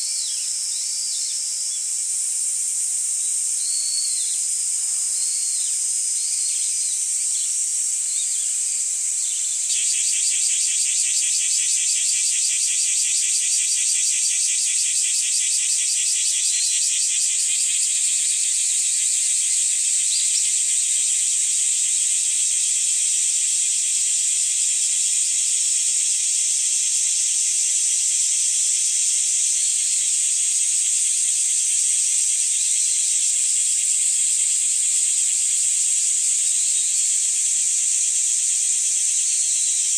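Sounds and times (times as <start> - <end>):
chorus of singing insects: 0.0 - 39.9.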